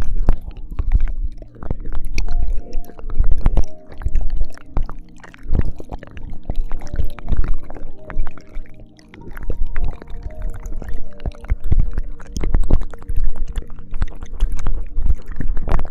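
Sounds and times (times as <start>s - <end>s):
wet mouth clicks and slurps: 0.0s - 15.9s.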